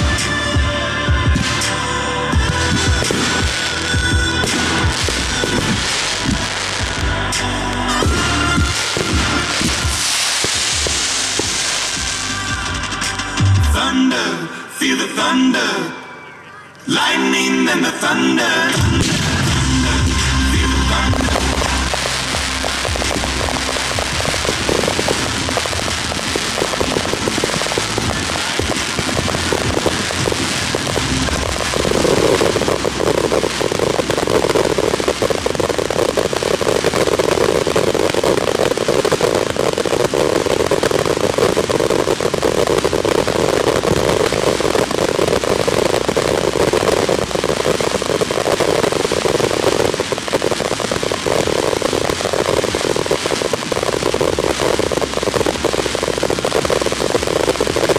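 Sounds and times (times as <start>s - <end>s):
fireworks crackling: 0.0s - 57.9s
pop song: 0.0s - 57.9s.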